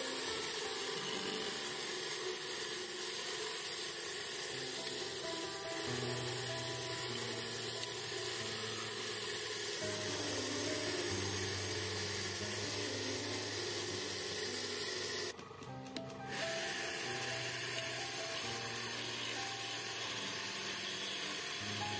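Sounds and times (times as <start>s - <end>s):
background music with held chords: 0.0s - 2.6s, 4.5s - 21.9s
chisel cutting wood on lathe: 0.0s - 15.4s, 16.2s - 21.9s.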